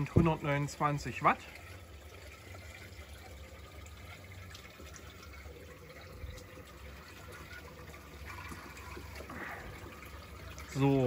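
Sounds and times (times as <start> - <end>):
pump running: 0.0 - 11.0
water rushing through pipes: 0.0 - 11.0.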